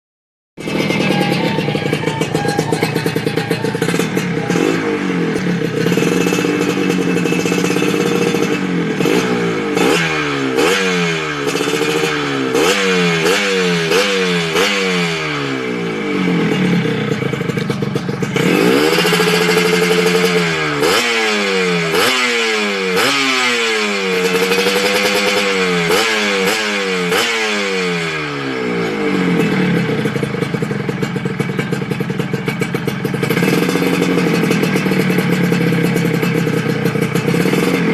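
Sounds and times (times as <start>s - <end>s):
two-stroke motorcycle engine revving: 0.6s - 37.9s.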